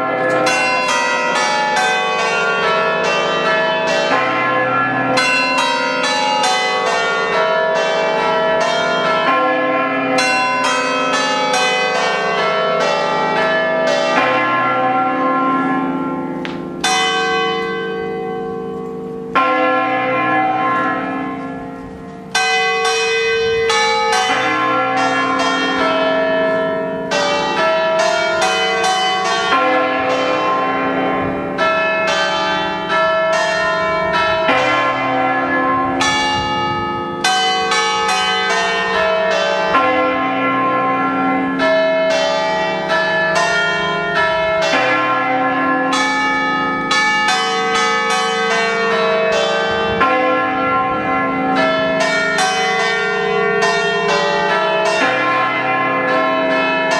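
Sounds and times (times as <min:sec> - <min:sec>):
church bells playing a tune: 0:00.0 - 0:56.9.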